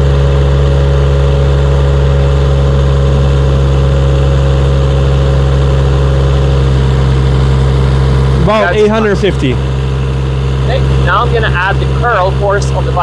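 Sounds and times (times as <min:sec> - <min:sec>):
diesel engine at full throttle: 0:00.0 - 0:13.0.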